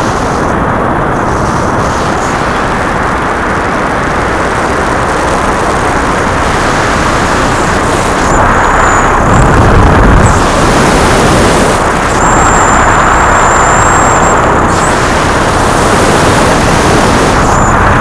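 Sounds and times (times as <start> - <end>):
paramotor engine running: 0.0 - 18.0
wind rush on microphone: 0.0 - 18.0.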